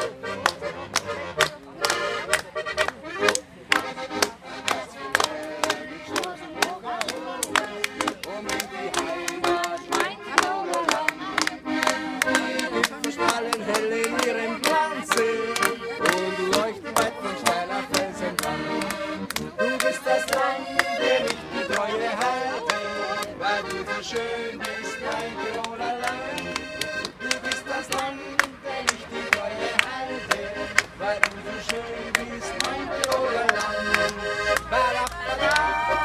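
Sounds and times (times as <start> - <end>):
accordion folk music: 0.0 - 36.0
hands clapping along: 0.0 - 36.0.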